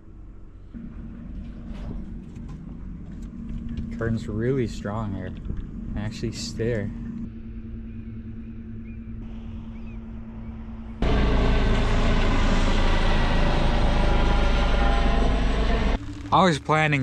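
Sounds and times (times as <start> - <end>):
boat motor humming: 0.0 - 17.0
loud engine drone: 0.0 - 17.0.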